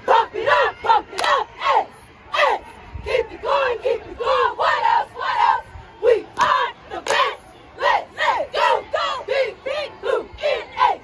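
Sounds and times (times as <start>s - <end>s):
cheerleaders shouting in unison: 0.0s - 11.0s.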